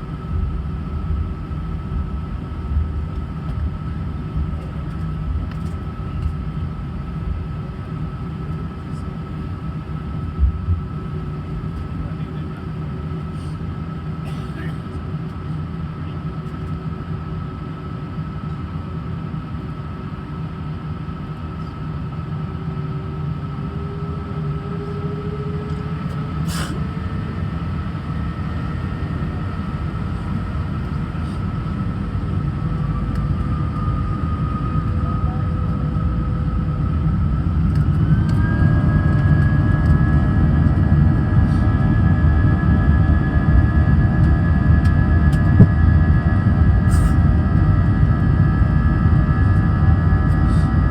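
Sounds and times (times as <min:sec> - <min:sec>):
jet engines whining and rumbling: 0:00.0 - 0:50.9.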